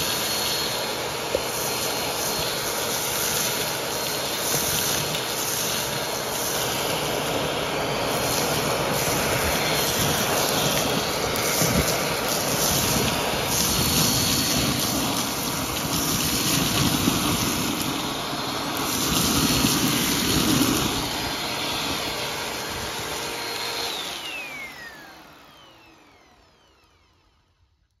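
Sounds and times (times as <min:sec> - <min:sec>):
vacuum cleaner running: 0:00.0 - 0:27.9
motor winding down whine: 0:00.0 - 0:28.0.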